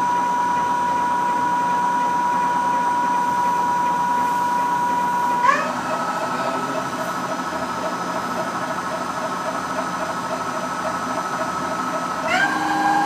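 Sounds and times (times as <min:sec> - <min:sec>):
lathe spindle whining: 0:00.0 - 0:13.0.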